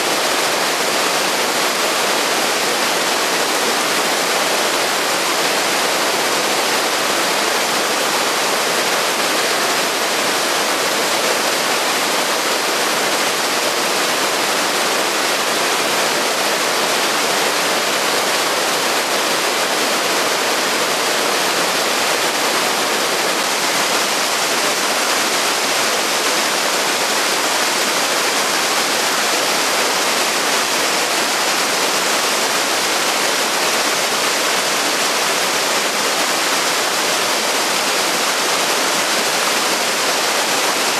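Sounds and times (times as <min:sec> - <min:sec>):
mountain stream rushing: 0:00.0 - 0:40.9
waterfall spilling over rocks: 0:00.0 - 0:40.9.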